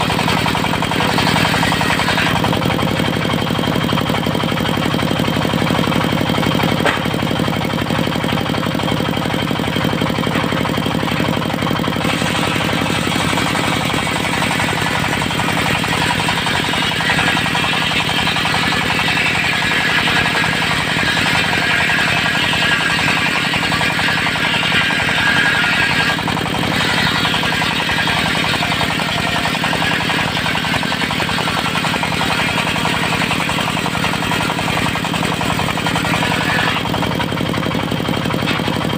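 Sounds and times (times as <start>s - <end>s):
diesel engine running: 0.0s - 38.9s
saw blade cutting wood: 0.0s - 38.9s.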